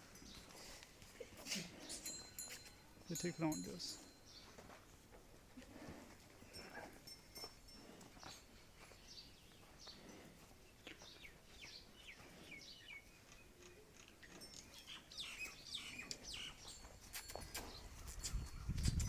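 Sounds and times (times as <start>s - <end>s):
small birds chirping: 0.1s - 5.0s, 6.5s - 19.0s.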